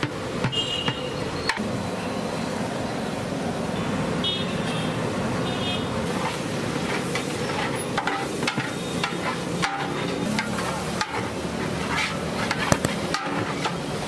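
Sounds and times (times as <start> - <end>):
street traffic roar: 0.0 - 14.0.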